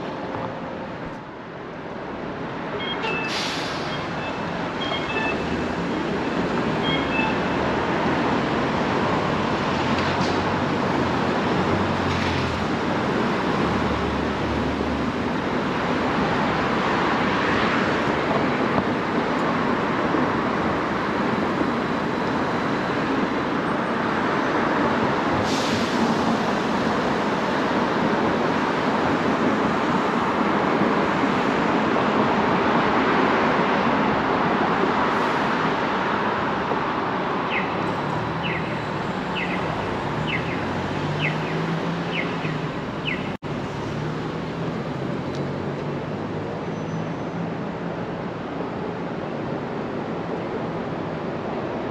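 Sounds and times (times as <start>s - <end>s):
busy city street traffic: 0.0s - 51.9s.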